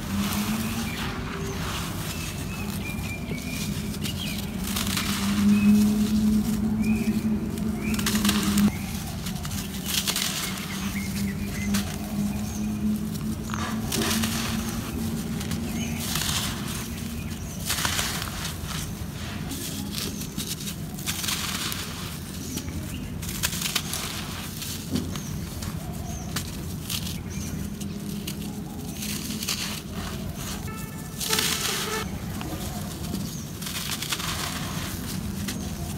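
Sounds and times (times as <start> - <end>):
dirt clods crumbled by hand: 0.0 - 35.9
trickle of falling soil: 0.0 - 35.9.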